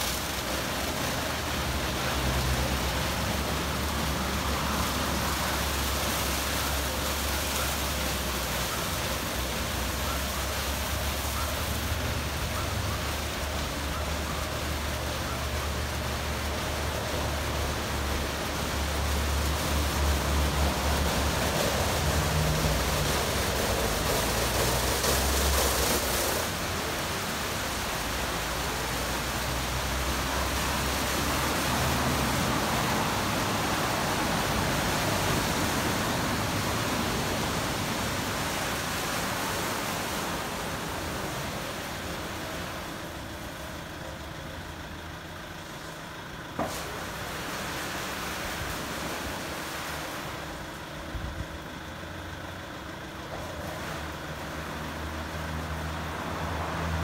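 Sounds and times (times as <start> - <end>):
water spraying: 0.0 - 51.1, 53.2 - 57.0.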